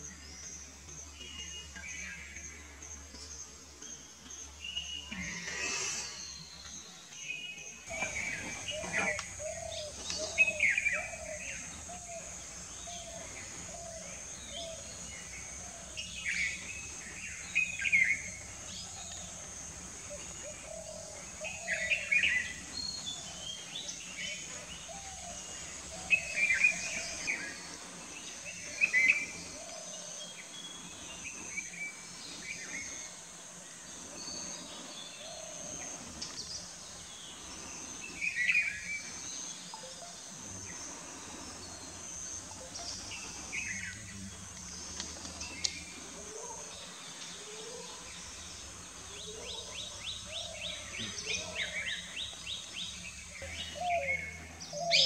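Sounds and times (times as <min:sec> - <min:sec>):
birds chirping: 0:00.0 - 0:55.0
high insect drone: 0:00.0 - 0:55.0.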